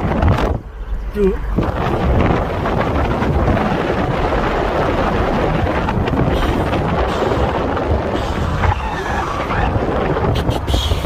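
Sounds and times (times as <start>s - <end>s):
car road and wind noise: 0.0s - 11.0s
wind buffeting microphone: 0.0s - 11.0s.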